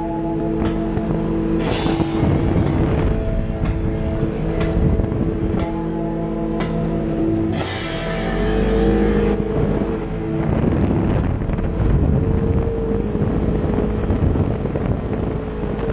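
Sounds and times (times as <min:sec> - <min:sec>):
guitar music: 0:00.0 - 0:15.9
vehicle engine running: 0:00.0 - 0:15.9
wind and drive noise: 0:00.0 - 0:15.9.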